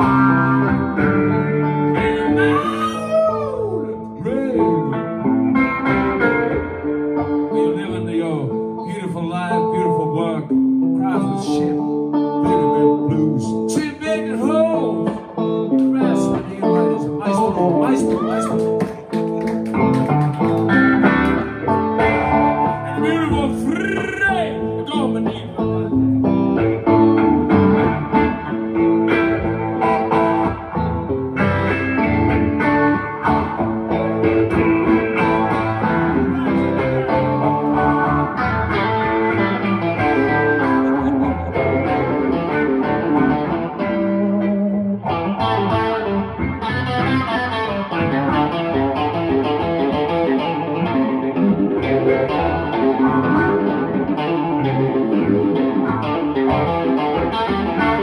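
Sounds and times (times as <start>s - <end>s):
accompanying guitar: 0.0s - 58.0s
electric guitar lines: 0.0s - 58.0s.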